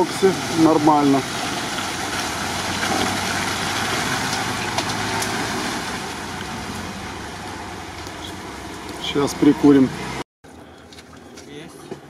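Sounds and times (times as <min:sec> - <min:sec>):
suv engine running: 0:00.0 - 0:11.3
tyres churning mud: 0:00.0 - 0:12.0.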